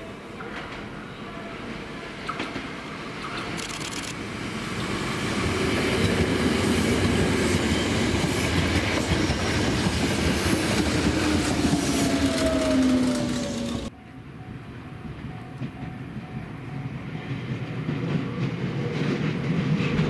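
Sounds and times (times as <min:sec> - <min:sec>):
train running past: 0:00.0 - 0:20.0.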